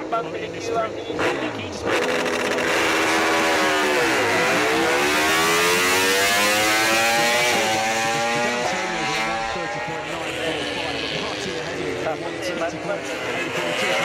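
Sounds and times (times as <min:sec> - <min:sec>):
race bike engine revving: 0:00.6 - 0:14.0.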